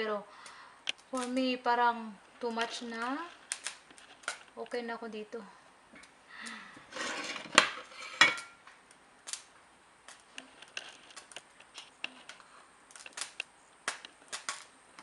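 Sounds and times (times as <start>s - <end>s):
rustle: 0.0s - 15.0s.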